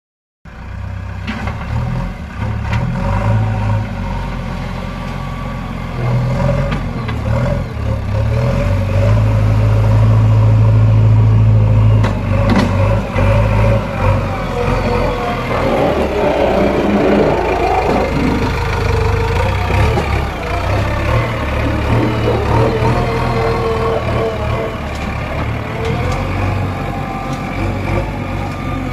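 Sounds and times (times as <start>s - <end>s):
diesel engine under load: 0.5s - 28.9s.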